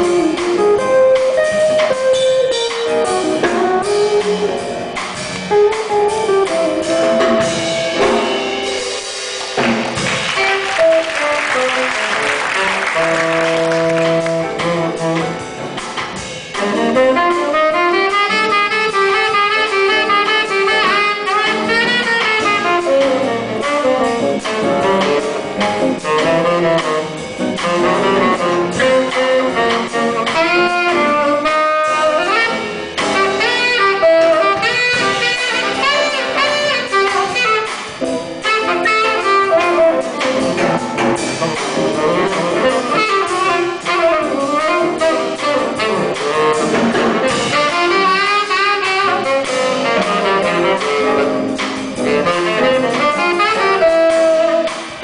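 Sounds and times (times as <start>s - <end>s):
saxophone melody: 0.0s - 9.1s, 9.8s - 55.0s
jazz combo playing: 0.0s - 55.0s.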